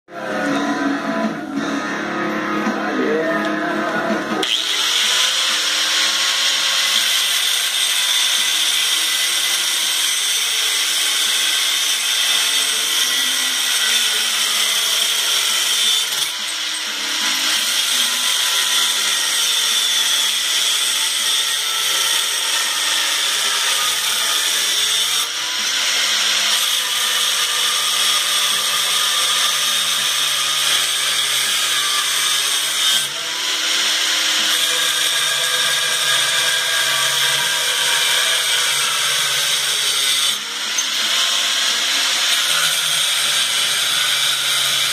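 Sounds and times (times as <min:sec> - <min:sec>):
angle grinder cutting steel: 0:04.1 - 0:44.9.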